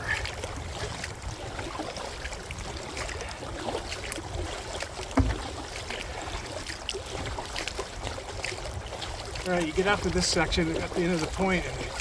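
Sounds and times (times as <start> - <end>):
paddle splashes: 0.0 - 12.0
water lapping at hull: 0.0 - 12.0.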